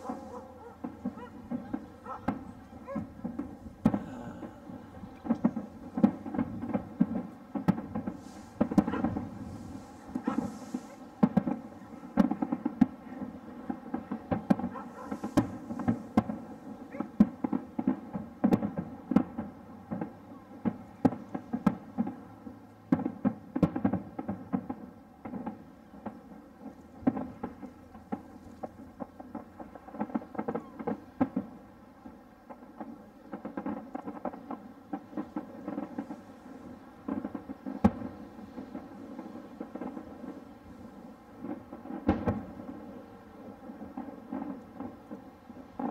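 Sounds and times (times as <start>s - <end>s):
distant fireworks bursting: 0.0s - 45.9s
loud fireworks bangs: 0.0s - 45.9s.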